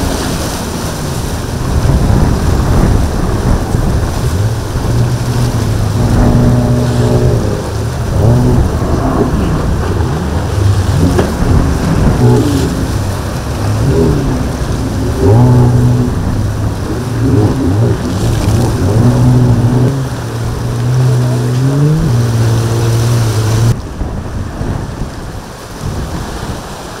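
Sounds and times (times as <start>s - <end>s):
boat engine revving: 0.0s - 27.0s
wind rumble on microphone: 0.0s - 27.0s.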